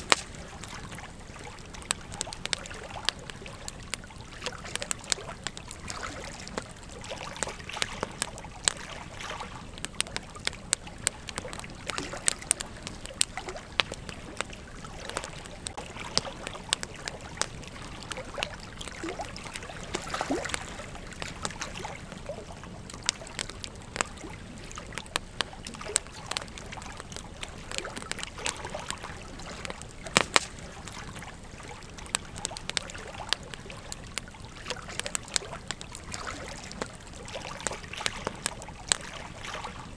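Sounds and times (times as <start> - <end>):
campfire crackling: 0.0 - 39.9
rush of flames: 0.0 - 39.9
sharp pops of fire: 0.0 - 39.9.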